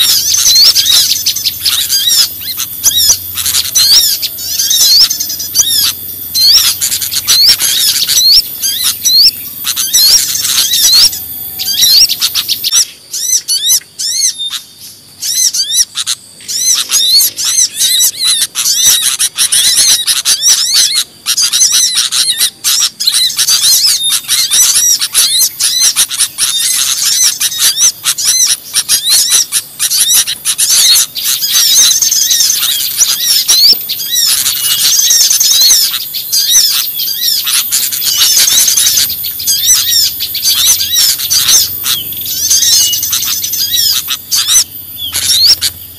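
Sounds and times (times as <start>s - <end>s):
chorus of small birds chirping: 0.0s - 45.9s.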